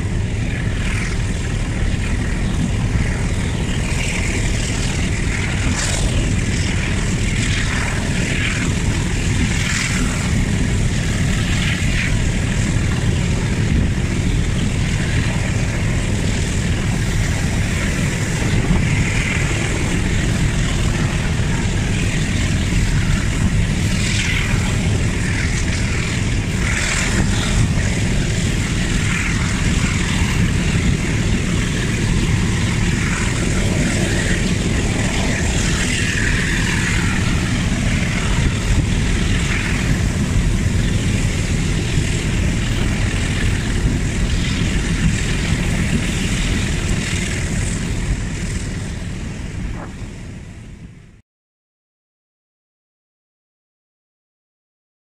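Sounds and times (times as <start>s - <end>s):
diesel locomotive engine working hard: 0.0s - 51.2s
wind noise on microphone: 0.0s - 51.2s.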